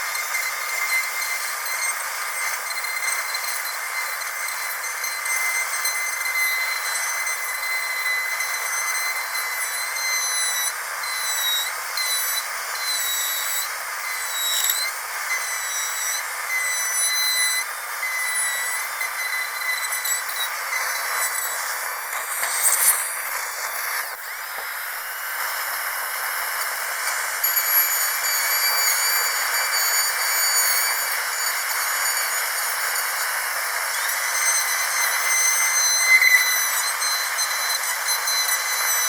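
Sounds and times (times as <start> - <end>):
dentist's drill whining: 0.0 - 39.0
hiss: 0.0 - 39.0.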